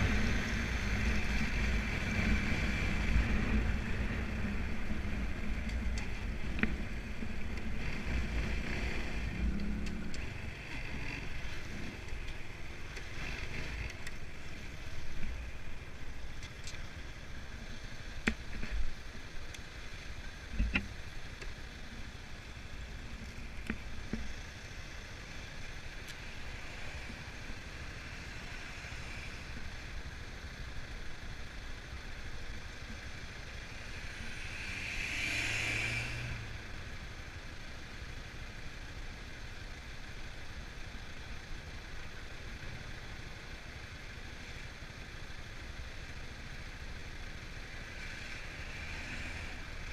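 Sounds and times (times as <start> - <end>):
traffic hum: 0.0 - 49.9.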